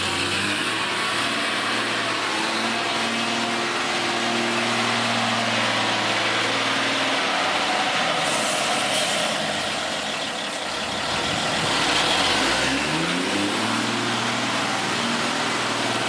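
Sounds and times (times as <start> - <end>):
engine revving up: 0.0 - 16.0
truck diesel engine running: 0.0 - 16.0.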